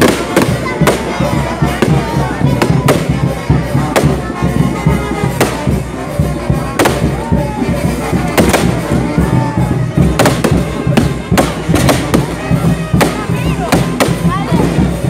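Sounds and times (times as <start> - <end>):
fireworks banging: 0.0 - 15.0
loud music: 0.0 - 15.0.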